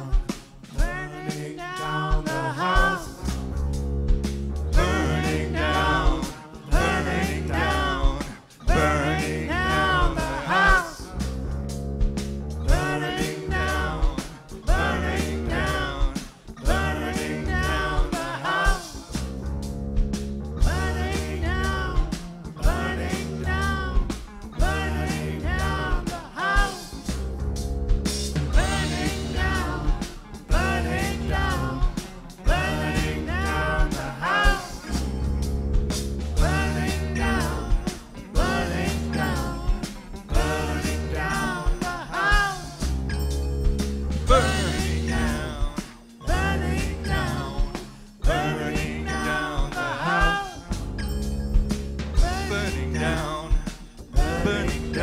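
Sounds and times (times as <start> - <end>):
steady drum beat: 0.0 - 55.0
live rock band playing: 1.9 - 55.0
low bass notes: 3.0 - 26.2, 26.9 - 34.2, 34.8 - 41.8, 42.8 - 49.6, 50.7 - 55.0.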